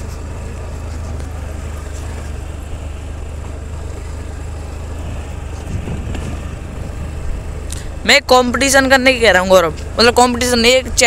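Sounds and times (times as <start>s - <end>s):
motor scooter engine running: 0.0s - 11.0s
road noise: 0.0s - 11.0s.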